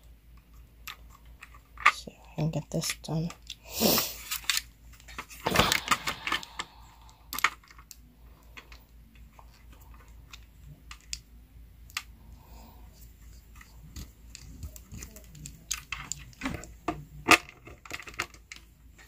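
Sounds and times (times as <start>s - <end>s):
plastic parts clicking and knocking: 0.0s - 3.6s, 4.3s - 12.1s, 13.2s - 19.0s.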